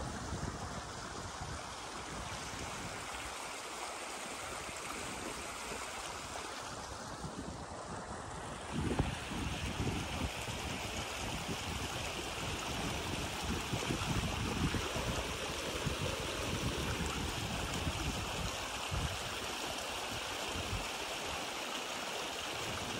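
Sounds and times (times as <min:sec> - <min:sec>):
stream flowing over stones: 0:00.0 - 0:22.9.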